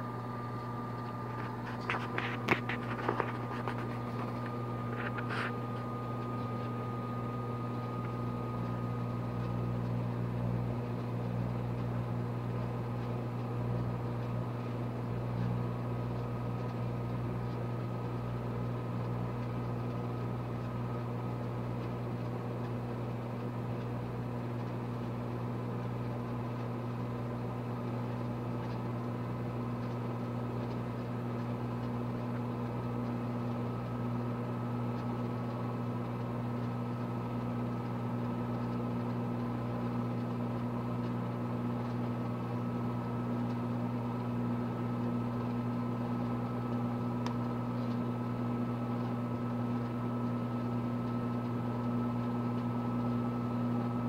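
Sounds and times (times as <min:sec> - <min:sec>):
microwave oven humming: 0:00.0 - 0:54.0.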